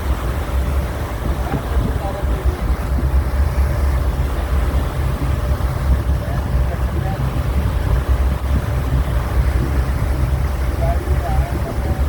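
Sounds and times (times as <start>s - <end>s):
boat engine rumble: 0.0s - 12.0s
wind and water rushing: 0.0s - 12.0s.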